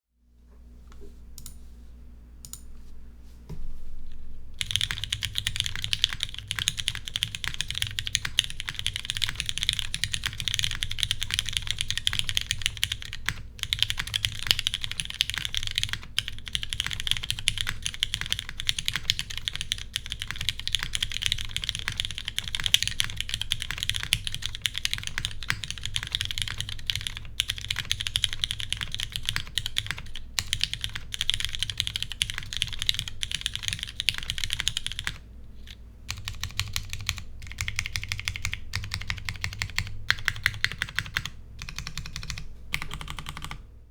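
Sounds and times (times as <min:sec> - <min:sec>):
mechanical keyboard typing: 0:04.6 - 0:43.7.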